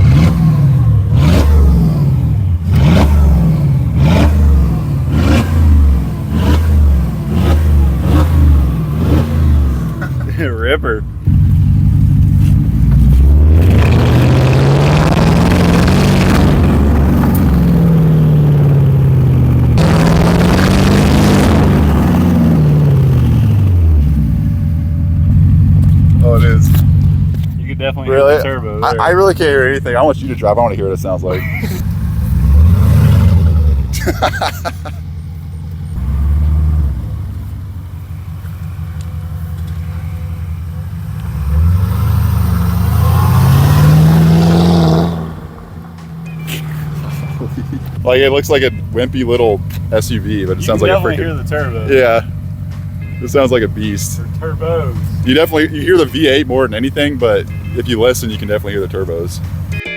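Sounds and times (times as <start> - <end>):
car engine accelerating: 0.0 - 59.8.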